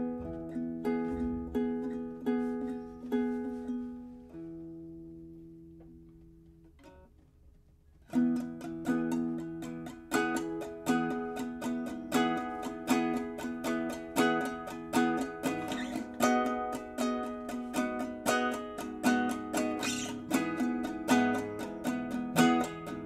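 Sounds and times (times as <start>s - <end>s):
strummed acoustic string chords: 0.0s - 23.0s.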